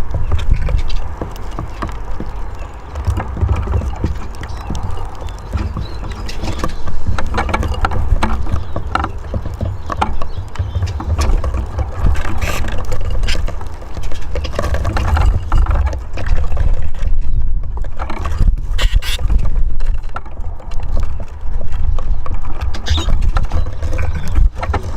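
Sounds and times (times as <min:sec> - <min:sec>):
birds tapping and scraping on wood: 0:00.0 - 0:24.9
wind rumble on microphone: 0:00.0 - 0:24.9.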